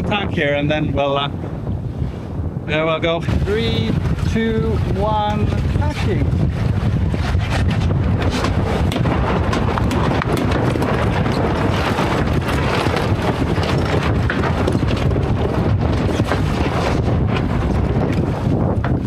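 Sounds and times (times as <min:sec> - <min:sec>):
heavy wind rumble on microphone: 0:00.0 - 0:19.0
sails flapping and knocking: 0:00.0 - 0:19.0.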